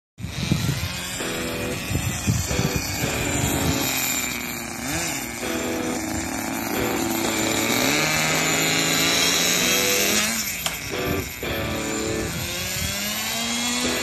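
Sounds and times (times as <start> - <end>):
small nitro engine revving: 0.2 - 14.0.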